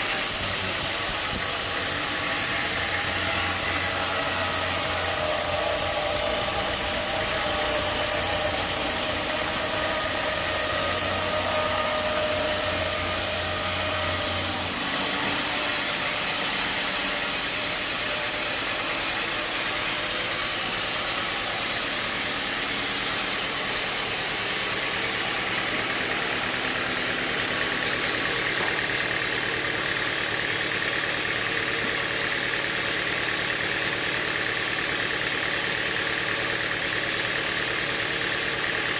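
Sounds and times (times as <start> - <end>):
sawmill machinery droning: 0.0 - 38.9.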